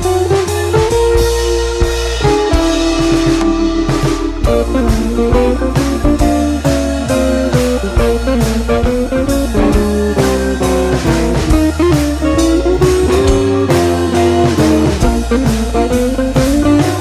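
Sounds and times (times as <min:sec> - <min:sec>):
blues-rock guitar music: 0:00.0 - 0:17.0
steady drum beat: 0:00.0 - 0:17.0.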